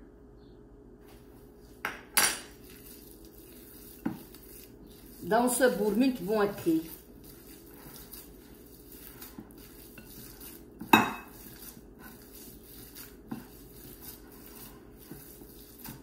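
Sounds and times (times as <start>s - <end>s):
hands kneading ground meat: 2.5s - 16.0s.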